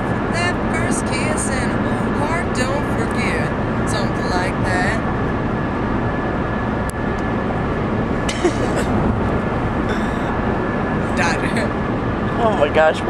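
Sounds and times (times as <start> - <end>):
faint steady whine: 0.0 - 13.0
road and engine rumble in cabin: 0.0 - 13.0.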